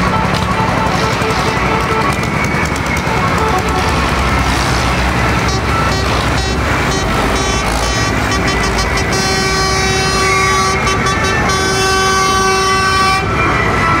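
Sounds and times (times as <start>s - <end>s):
tractor engines driving past: 0.0s - 14.0s.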